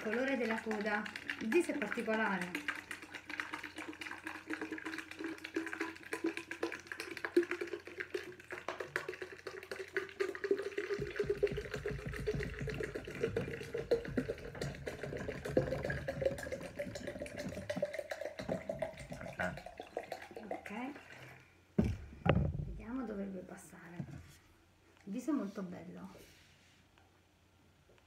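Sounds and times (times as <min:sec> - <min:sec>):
water pouring into plastic tube: 0:00.0 - 0:22.5.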